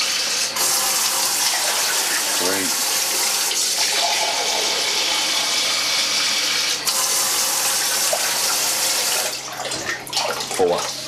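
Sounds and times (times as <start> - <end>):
tap water filling a jug: 0.0 - 11.0
water stream into metal sink: 0.0 - 11.0.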